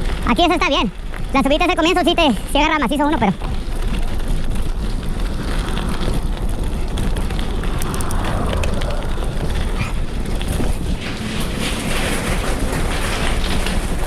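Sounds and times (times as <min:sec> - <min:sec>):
tyres rolling on dirt: 0:00.0 - 0:14.0
wind buffeting microphone: 0:00.0 - 0:14.0.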